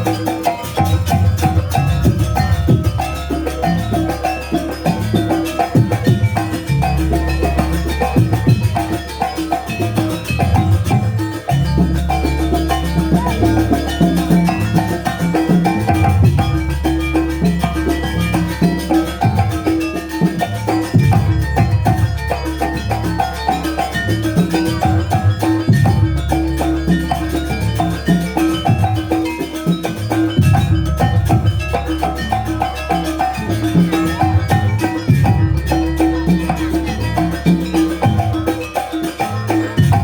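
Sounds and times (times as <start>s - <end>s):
drums: 0.0s - 40.0s
metallophones playing: 0.0s - 40.0s.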